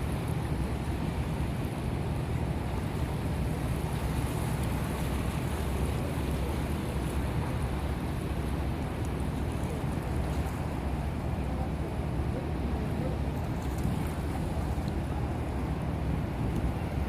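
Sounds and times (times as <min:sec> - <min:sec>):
water rushing: 0:00.0 - 0:17.0
wind rumbling on microphone: 0:00.0 - 0:17.0.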